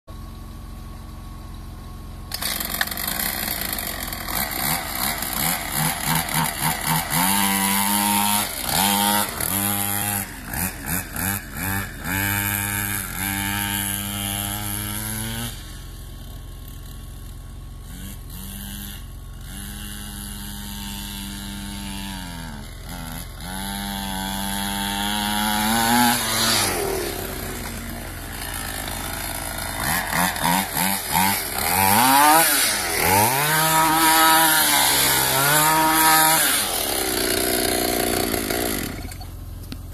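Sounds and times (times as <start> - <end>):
small motorbike engine revving: 0.1 - 39.9.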